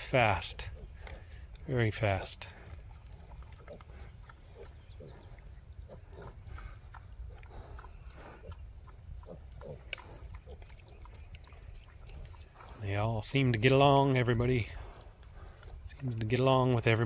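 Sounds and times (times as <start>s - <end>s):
pigs grunting and snuffling: 0.0s - 17.0s.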